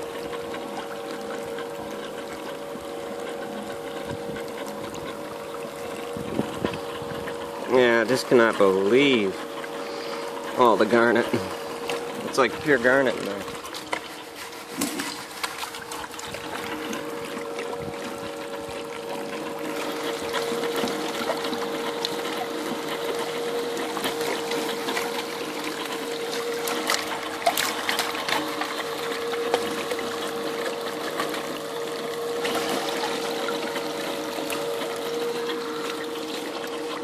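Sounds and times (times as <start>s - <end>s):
electric motor and pump humming: 0.0s - 37.0s
water trickling and splashing: 0.0s - 37.0s.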